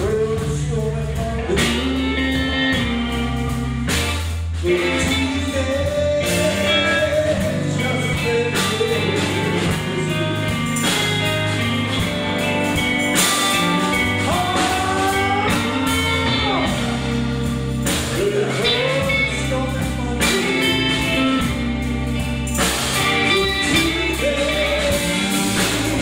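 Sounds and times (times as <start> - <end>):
blues-rock band playing: 0.0 - 26.0
lead guitar bending notes: 1.4 - 26.0.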